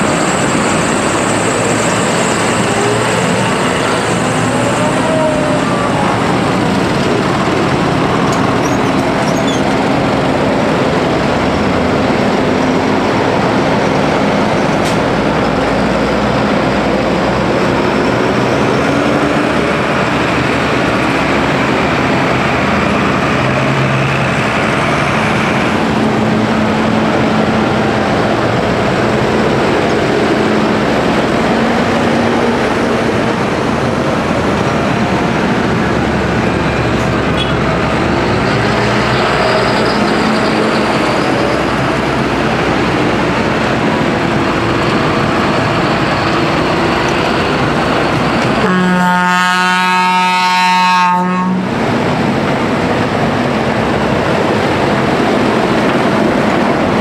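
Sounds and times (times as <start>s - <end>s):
tractor diesel engines driving past: 0.0s - 57.0s.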